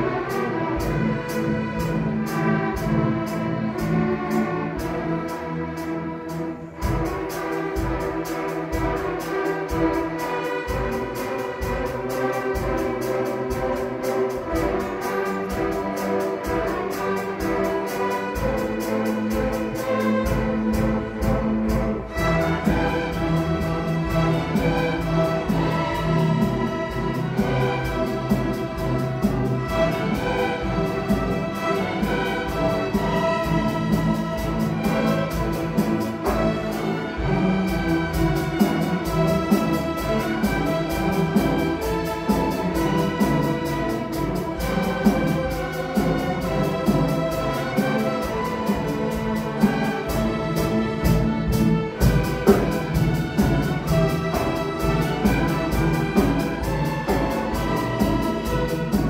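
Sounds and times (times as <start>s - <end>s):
orchestra playing classical piece: 0.0s - 59.0s.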